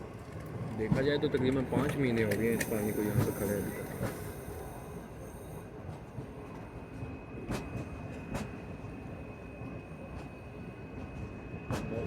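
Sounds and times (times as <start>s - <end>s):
train rumble from inside coach: 0.0s - 12.0s.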